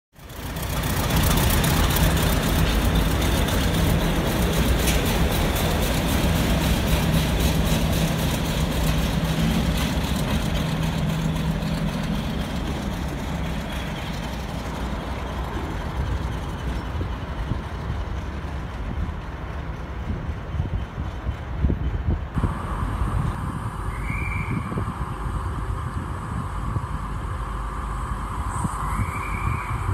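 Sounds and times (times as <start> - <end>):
diesel locomotive engine clatter: 0.1 - 29.9.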